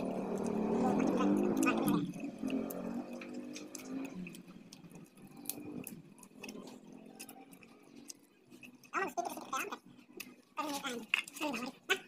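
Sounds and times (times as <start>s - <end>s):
people chewing: 0.0s - 12.0s.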